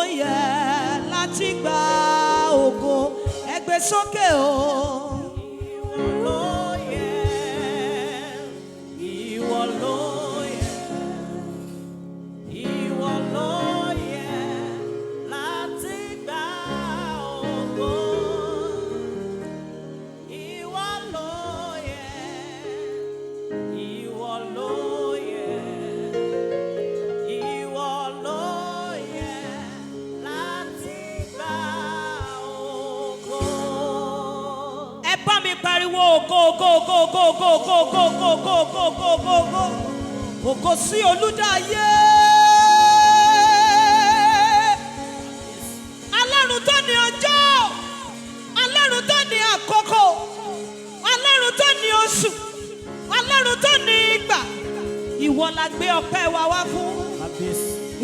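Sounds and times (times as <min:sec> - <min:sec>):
person singing ornamented runs: 0:00.0 - 0:11.9, 0:12.5 - 0:58.0.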